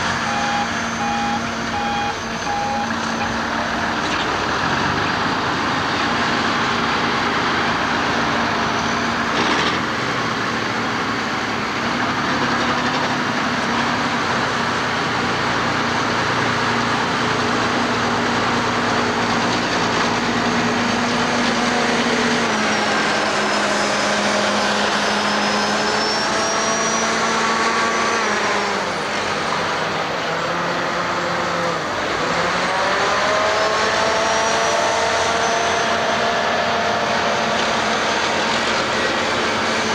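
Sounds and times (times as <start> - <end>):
dump truck diesel engines revving: 0.0 - 39.9.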